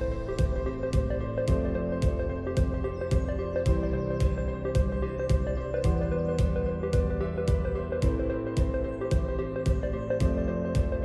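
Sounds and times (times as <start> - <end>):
soft instrumental music with beat: 0.0 - 11.0.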